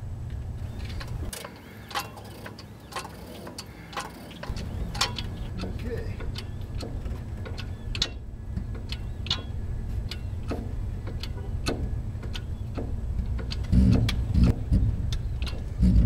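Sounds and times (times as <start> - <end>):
steady low rumble: 0.0 - 1.9, 3.6 - 16.0
hand pump clicks: 0.8 - 16.0.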